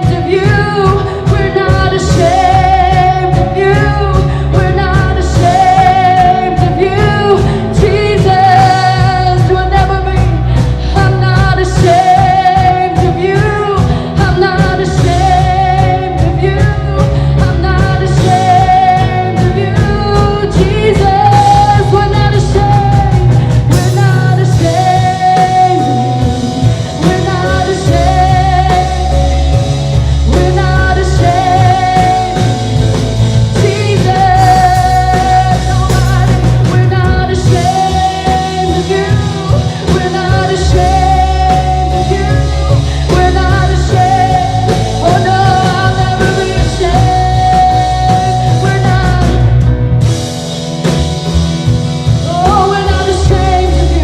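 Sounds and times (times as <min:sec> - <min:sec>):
worship band playing rock song: 0:00.0 - 0:54.0.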